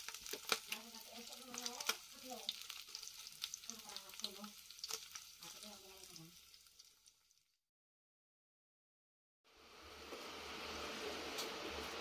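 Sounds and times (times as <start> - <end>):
chicken sizzling in oil: 0.0 - 7.6, 9.5 - 12.0.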